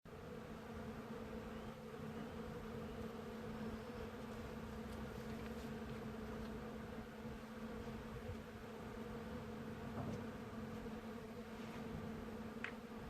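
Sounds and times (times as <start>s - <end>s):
bees buzzing: 0.1s - 13.0s.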